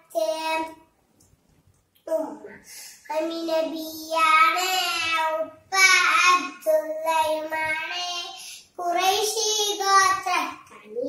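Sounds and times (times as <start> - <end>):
girl singing unaccompanied: 2.1 - 11.0.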